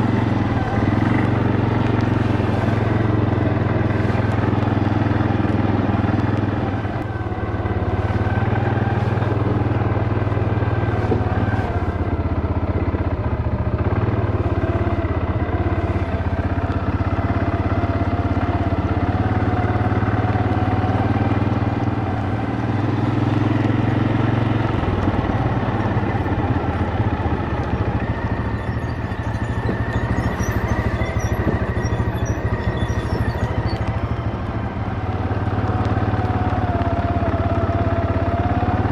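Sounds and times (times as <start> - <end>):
small vehicle engine running: 0.0 - 38.9.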